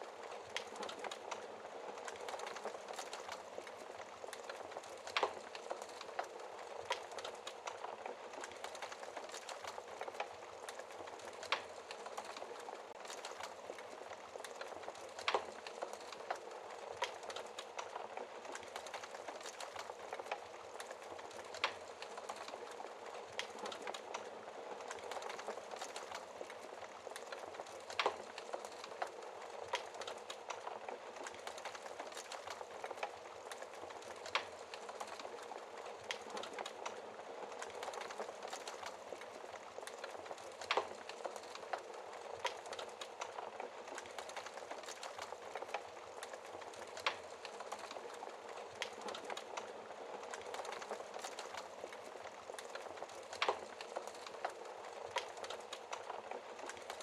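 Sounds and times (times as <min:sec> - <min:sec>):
logs crackling and popping: 0:00.0 - 0:57.0.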